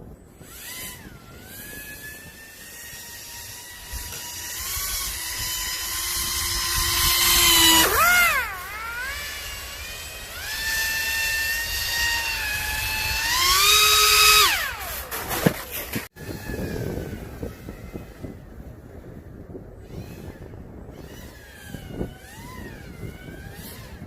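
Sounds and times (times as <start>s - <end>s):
electric motor and propeller whining: 0.0s - 24.0s.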